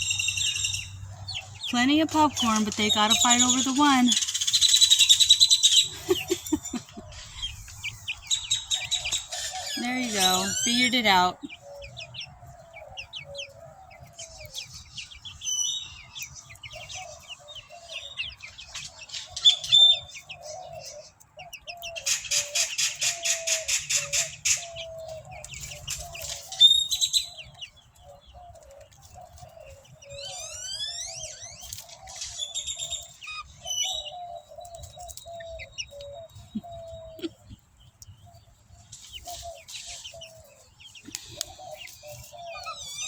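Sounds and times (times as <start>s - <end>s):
chickens trilling softly: 0.0s - 43.0s
wild birds chirping: 0.0s - 43.0s.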